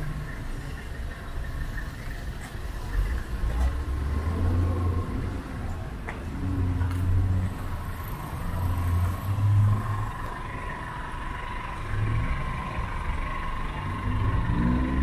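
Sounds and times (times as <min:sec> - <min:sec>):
vehicle engines rumbling past: 0:00.0 - 0:15.0.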